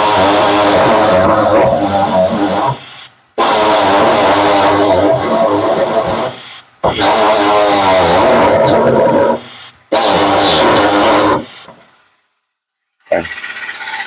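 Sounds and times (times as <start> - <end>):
pneumatic jigsaw cutting metal: 0.0 - 11.9.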